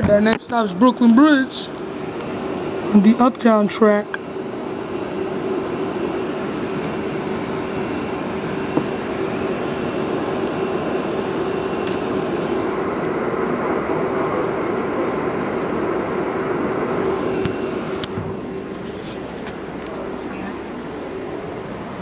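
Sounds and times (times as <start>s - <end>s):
mid-pitched equipment drone: 0.0s - 22.0s
subway car rumble and hiss: 0.0s - 22.0s.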